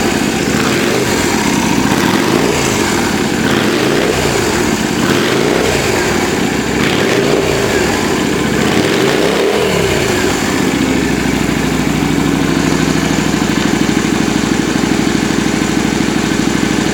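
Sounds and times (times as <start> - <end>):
motorcycle engine revving and idling: 0.0 - 16.9.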